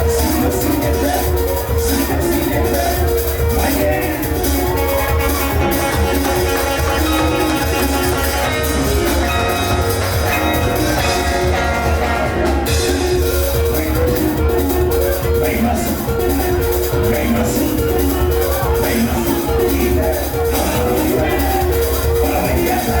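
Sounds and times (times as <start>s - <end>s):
drum beat: 0.0s - 23.0s
heavy bass line: 0.0s - 23.0s
high repeating melody: 2.1s - 23.0s.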